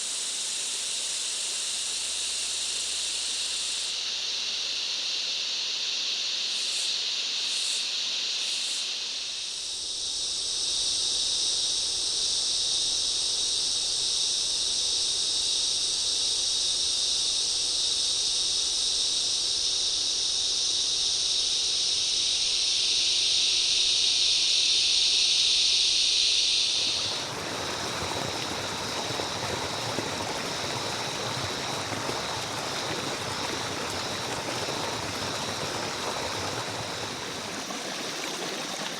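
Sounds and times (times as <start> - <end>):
cicada and insect chorus: 0.0 - 38.9.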